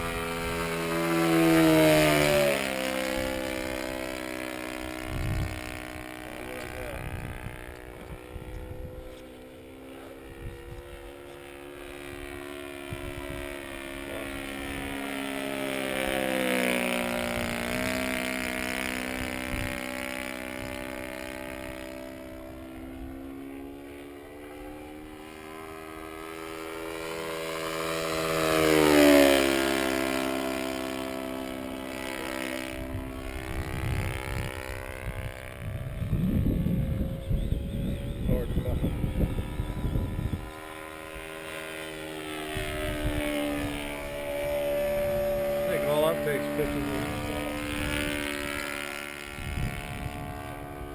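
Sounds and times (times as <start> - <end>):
model plane engine fly-by: 0.0 - 50.9.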